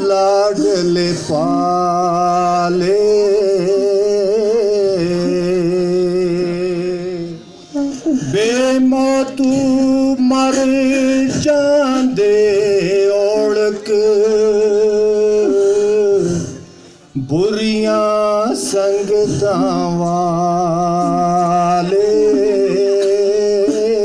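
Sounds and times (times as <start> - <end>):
man singing into microphone: 0.0 - 24.0.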